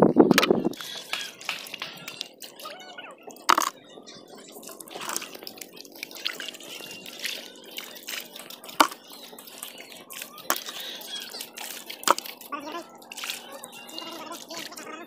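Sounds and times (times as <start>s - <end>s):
wet mud squelching: 0.3s - 15.0s
shallow water splashing: 0.7s - 15.0s.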